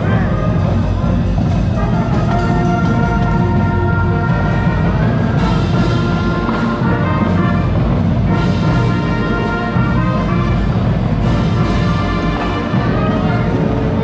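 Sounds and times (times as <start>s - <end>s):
brass horns holding loud notes: 0.0s - 14.0s
pounding bass drum: 0.0s - 14.0s.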